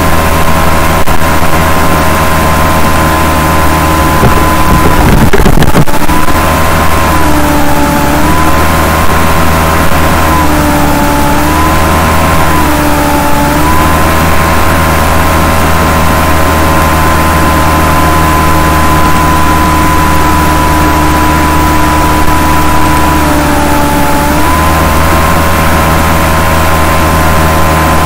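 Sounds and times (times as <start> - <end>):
high whine: 0.0 - 28.0
mechanical drone: 0.0 - 28.0.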